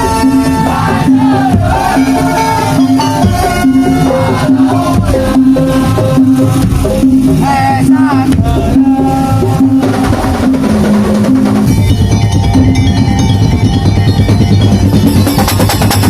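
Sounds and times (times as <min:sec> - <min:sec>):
wavering high note: 0:00.0 - 0:10.6, 0:11.6 - 0:15.7
percussion ensemble drumming: 0:00.0 - 0:16.0.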